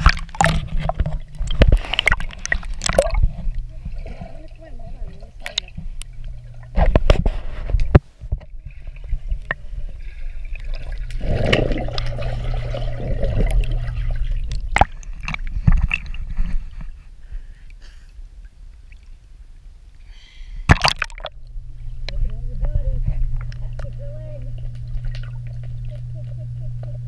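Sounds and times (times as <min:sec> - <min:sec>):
water splashing and gurgling: 0:00.0 - 0:17.1, 0:20.6 - 0:21.5, 0:22.2 - 0:27.0
steady low hum: 0:00.0 - 0:27.0.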